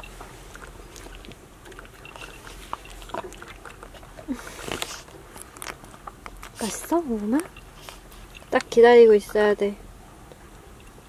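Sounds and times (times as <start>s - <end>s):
dog chewing: 0.0s - 9.5s.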